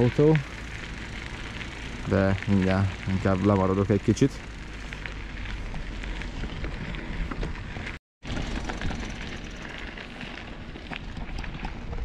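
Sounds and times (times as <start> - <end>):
bike tyres on gravel: 0.0 - 12.0
small clicks and rattles over stones: 0.1 - 12.0.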